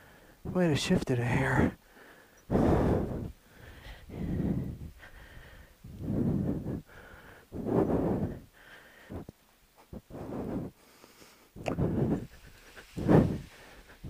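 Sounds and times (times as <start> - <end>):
man breathing heavily: 0.0 - 0.7, 1.4 - 14.0.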